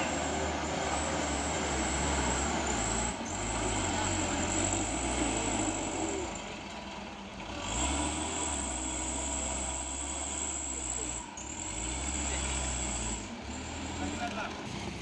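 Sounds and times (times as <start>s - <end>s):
diesel truck engine straining: 0.0s - 15.0s.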